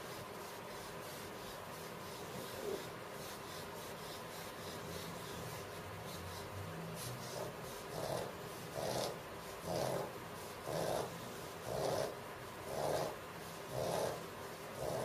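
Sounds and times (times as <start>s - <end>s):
dog rasping breathing: 0.6s - 15.0s.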